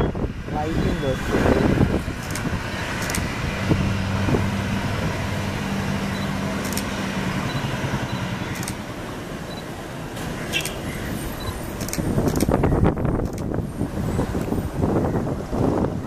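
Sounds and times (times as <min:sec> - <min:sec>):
jet engines rumbling: 0:00.0 - 0:16.0
road vehicle engine hum: 0:00.0 - 0:16.0.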